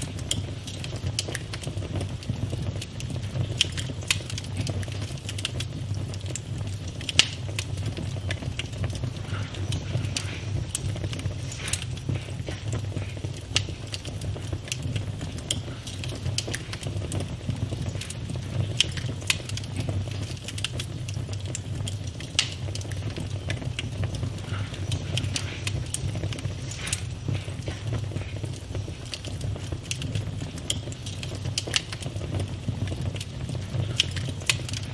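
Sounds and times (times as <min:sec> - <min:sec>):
burning wood crackling and popping: 0:00.0 - 0:34.9
campfire flames rumbling: 0:00.0 - 0:34.9.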